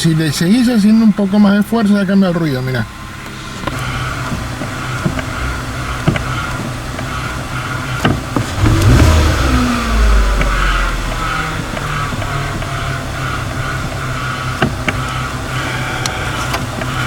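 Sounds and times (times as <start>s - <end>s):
car engine idling: 0.0s - 17.0s
clutch release bearing noise: 3.2s - 17.0s.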